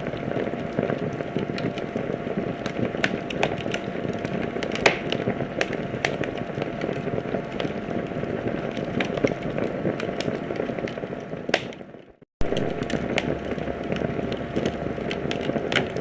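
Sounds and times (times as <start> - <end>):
wood fire crackling: 0.0 - 16.0
sharp pops of fire: 0.1 - 16.0.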